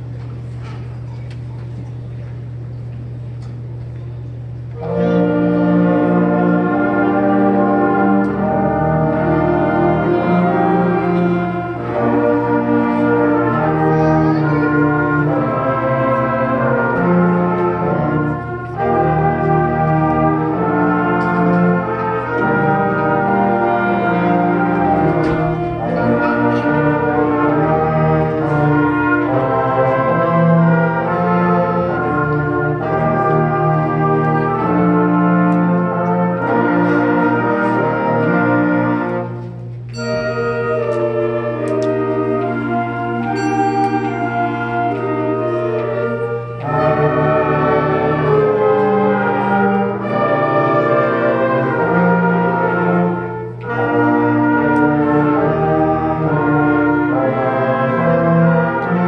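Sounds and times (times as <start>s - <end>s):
steady low hum: 0.0s - 59.0s
concert band playing chords: 4.8s - 59.0s.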